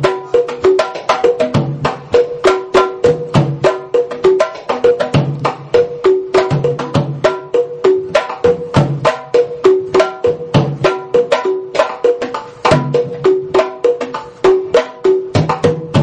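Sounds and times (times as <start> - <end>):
hourglass drums playing rhythm: 0.0 - 16.0.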